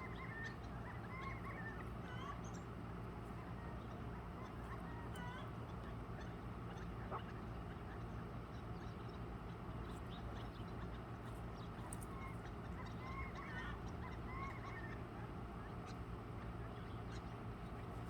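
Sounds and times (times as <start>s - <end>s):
poultry calling softly: 0.0s - 18.0s
steady low hum: 0.0s - 18.0s.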